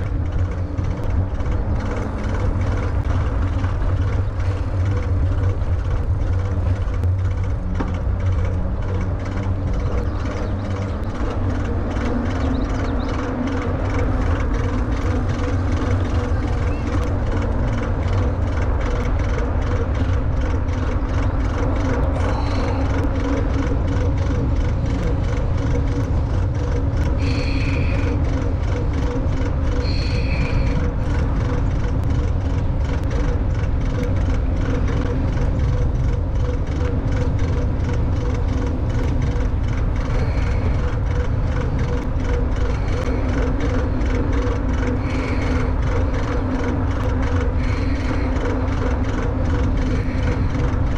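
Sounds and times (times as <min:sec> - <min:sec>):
electric motor hum: 0:00.0 - 0:50.9
wind rumbling on microphone: 0:00.0 - 0:50.9.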